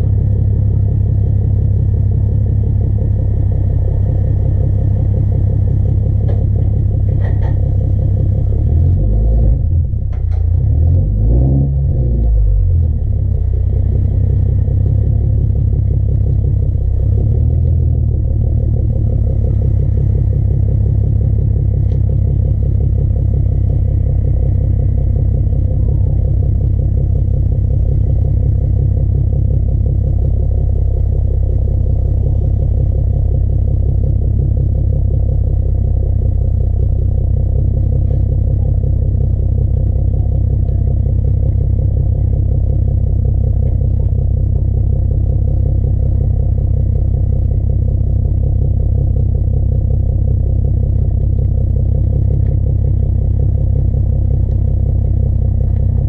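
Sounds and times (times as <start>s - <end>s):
car exhaust idling deep note: 0.0s - 56.0s.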